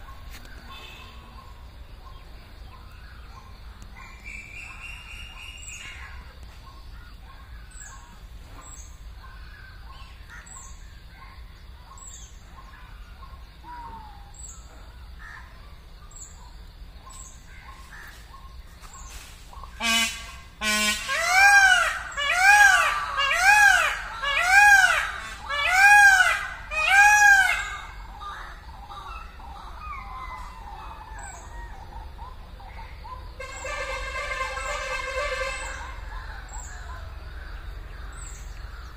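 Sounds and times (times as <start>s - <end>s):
birds calling: 0.0s - 38.9s.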